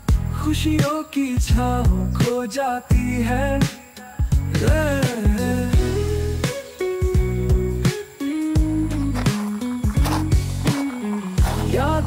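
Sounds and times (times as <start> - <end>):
pop song with drum beat: 0.0 - 12.0
person singing: 0.3 - 12.0.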